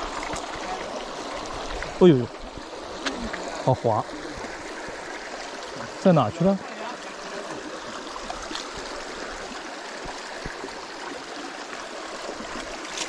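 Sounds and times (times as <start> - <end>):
stream flowing over rocks: 0.0 - 13.0.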